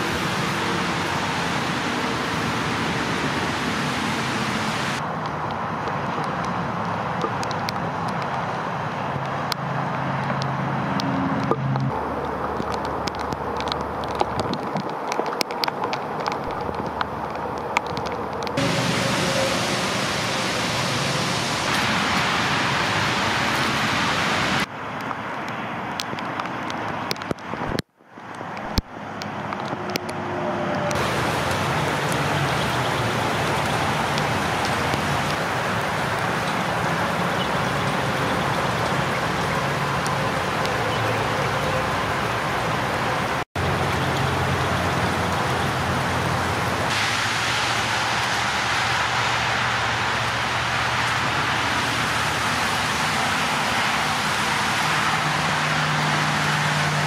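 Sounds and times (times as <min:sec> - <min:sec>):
steady rain falling: 0:00.0 - 0:10.8, 0:11.5 - 0:30.1, 0:30.9 - 0:57.0.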